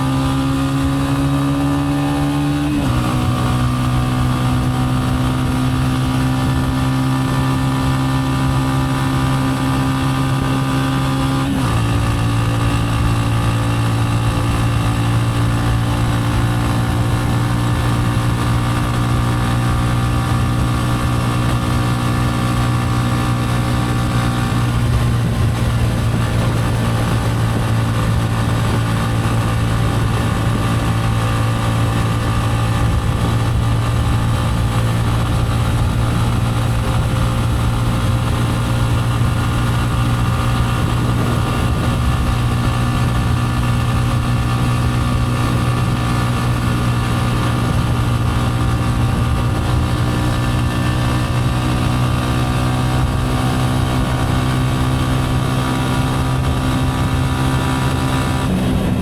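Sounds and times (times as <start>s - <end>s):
motorcycle engine cruising: 0.0s - 59.0s
road and wind hiss: 0.0s - 59.0s.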